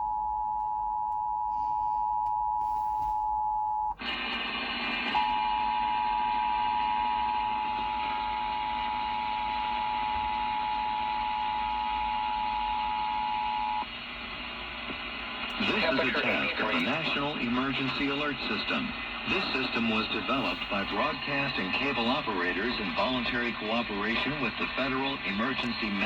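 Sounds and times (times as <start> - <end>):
radio hiss: 4.0 - 26.0.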